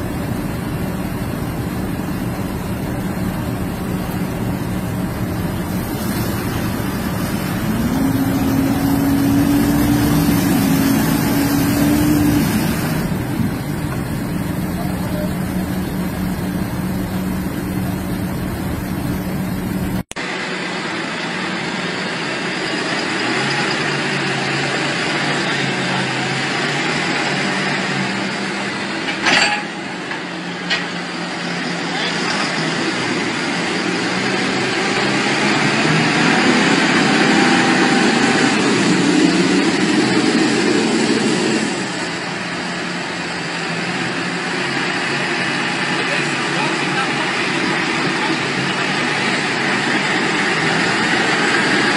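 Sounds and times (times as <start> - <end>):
tractor diesel engines under load: 0.0 - 51.9.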